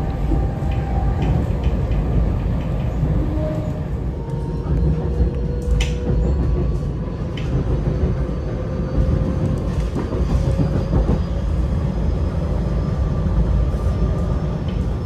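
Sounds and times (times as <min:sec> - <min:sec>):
train rumble from inside car: 0:00.0 - 0:15.0.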